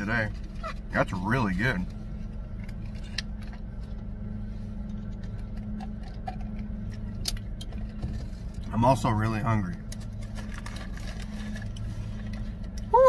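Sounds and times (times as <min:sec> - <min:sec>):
car engine hum inside cabin: 0:00.0 - 0:13.0.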